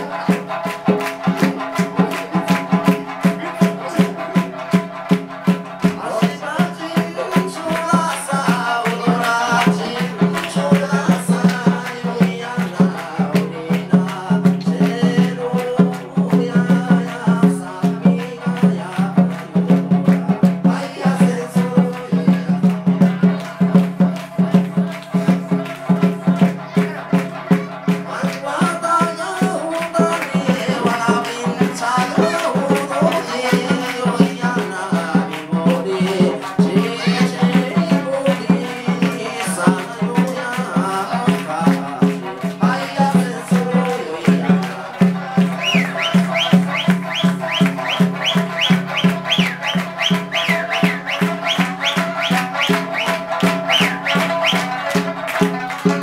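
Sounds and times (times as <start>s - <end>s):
fast clicking beat: 0.0s - 56.0s
men singing: 0.0s - 56.0s.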